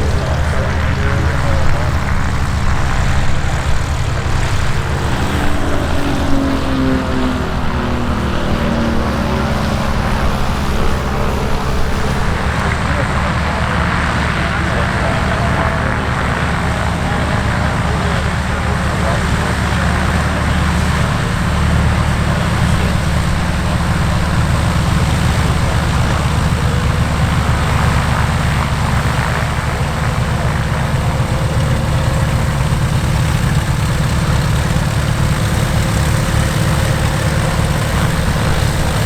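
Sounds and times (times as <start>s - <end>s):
aircraft engine idling: 0.0s - 39.0s.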